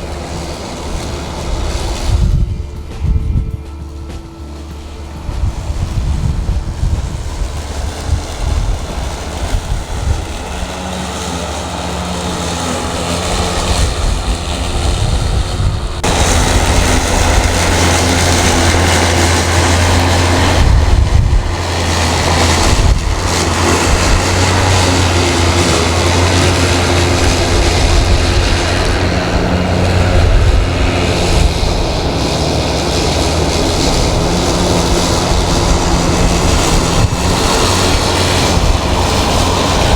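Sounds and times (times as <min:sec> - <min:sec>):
electric lawn mower running: 0:00.0 - 0:39.9
wind buffeting microphone: 0:00.0 - 0:39.9.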